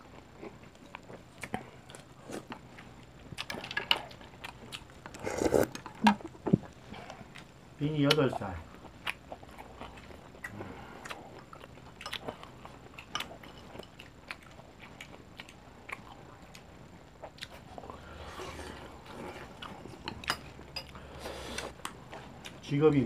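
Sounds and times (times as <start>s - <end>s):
people chewing: 0.0s - 23.0s.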